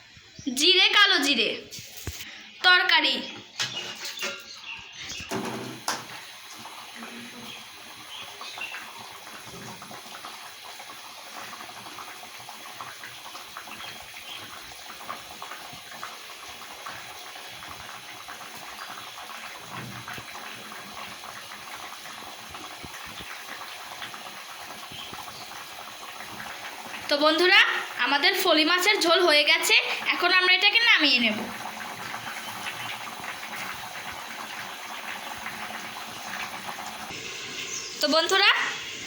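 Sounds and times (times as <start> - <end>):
curry bubbling and crackling: 4.6 - 38.7
splash and sizzle: 4.9 - 39.0.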